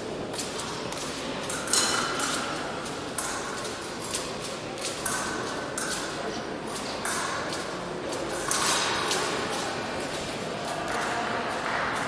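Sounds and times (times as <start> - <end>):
fencing blades clicking: 0.3 - 11.2.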